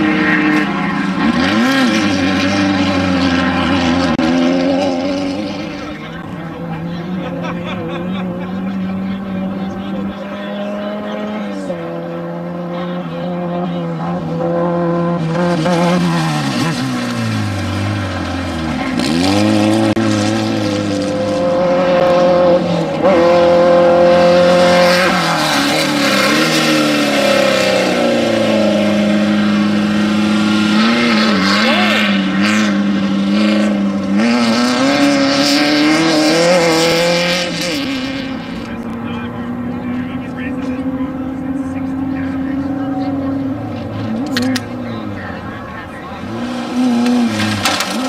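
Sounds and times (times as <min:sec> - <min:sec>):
race vehicle engines revving: 0:00.0 - 0:48.0.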